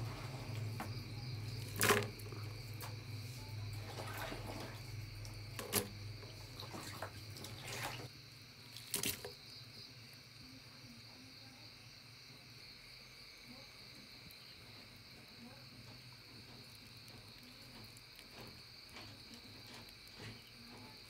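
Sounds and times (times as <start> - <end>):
insect chirring: 0.2 - 21.0.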